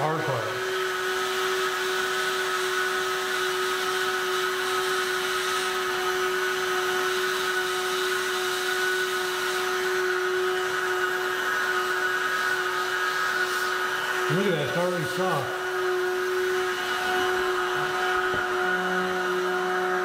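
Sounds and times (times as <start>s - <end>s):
heat gun fan humming: 0.0s - 20.0s.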